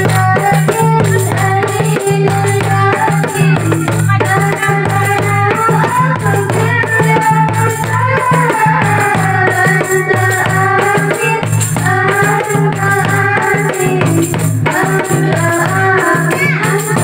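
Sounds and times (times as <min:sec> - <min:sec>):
hand drums: 0:00.0 - 0:17.0
jingling percussion: 0:00.0 - 0:17.0
women singing: 0:00.0 - 0:17.0.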